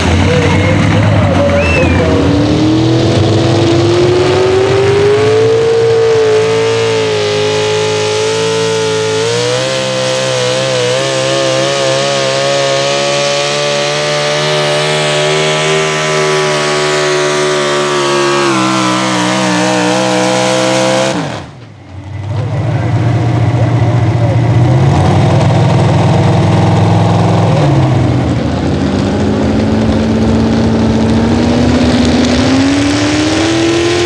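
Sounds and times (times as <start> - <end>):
truck engine revving at full throttle: 0.0 - 34.0.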